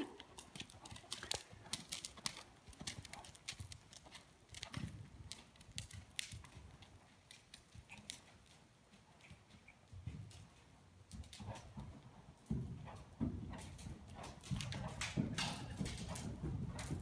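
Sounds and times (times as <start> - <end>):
horse hoofbeats on sand: 0.4 - 17.0.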